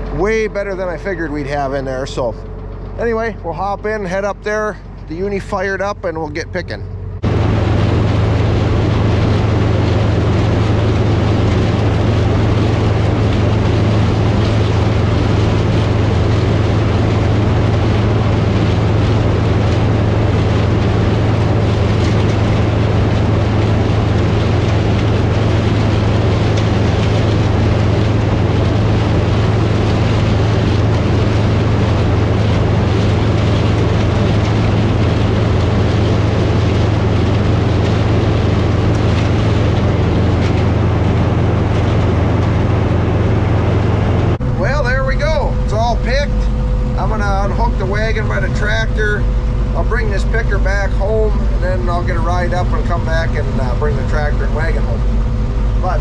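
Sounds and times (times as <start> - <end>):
harvester engine drone: 0.0 - 56.0
machinery noise: 0.0 - 56.0.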